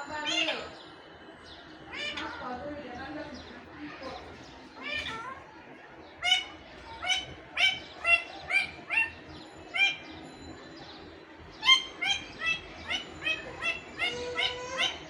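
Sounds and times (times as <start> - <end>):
parakeet calls: 0.0 - 1.0, 1.8 - 5.5, 6.1 - 10.7, 11.5 - 15.0.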